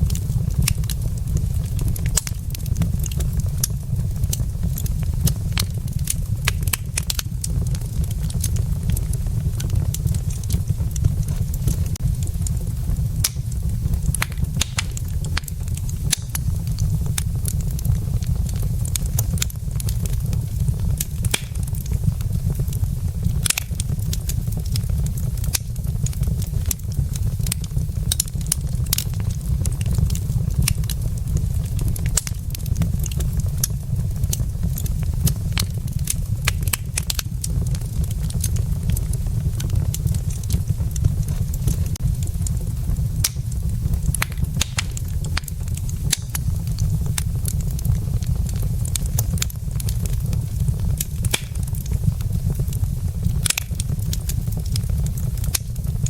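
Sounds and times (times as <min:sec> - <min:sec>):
logs crackling in fireplace: 0:00.0 - 0:56.0
low rumble: 0:00.0 - 0:56.0.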